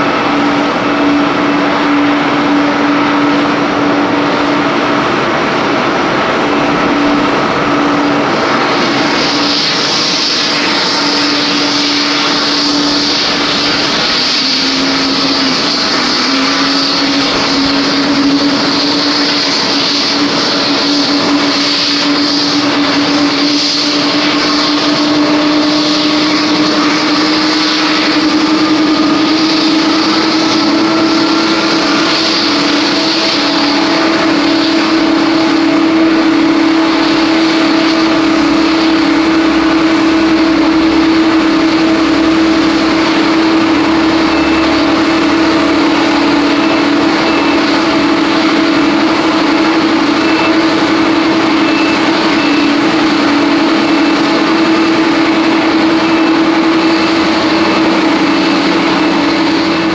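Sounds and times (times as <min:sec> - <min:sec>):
faint engine whine: 0:00.0 - 0:59.9
jet engine roaring: 0:00.0 - 0:59.9.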